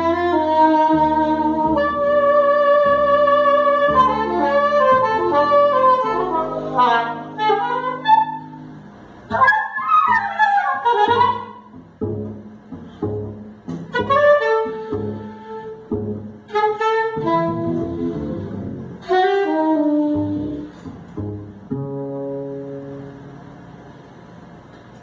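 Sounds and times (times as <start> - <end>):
reed horn playing jazz: 0.0 - 23.6
double bass notes: 0.0 - 25.0.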